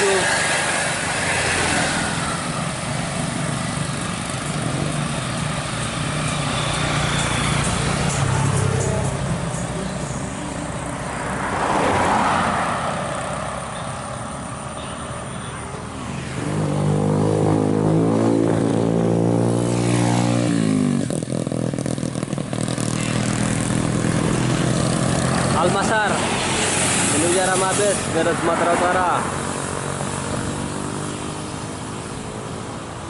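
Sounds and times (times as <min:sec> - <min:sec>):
vehicle passing: 0:00.0 - 0:14.7, 0:15.8 - 0:33.0
road traffic: 0:00.0 - 0:33.0.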